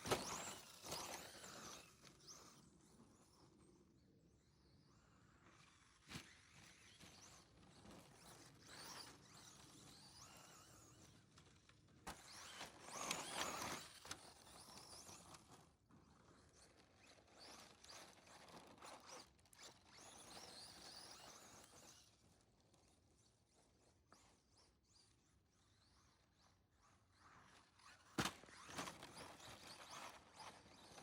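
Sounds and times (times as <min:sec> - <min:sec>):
electric rc truck motor whine: 0:00.0 - 0:31.0.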